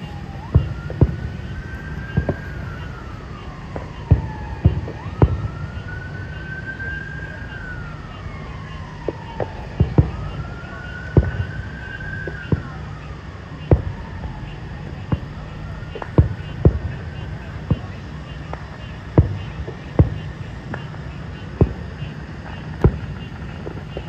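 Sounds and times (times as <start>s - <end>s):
emergency siren wailing: 0.0s - 24.0s
fireworks bursting: 0.0s - 24.0s.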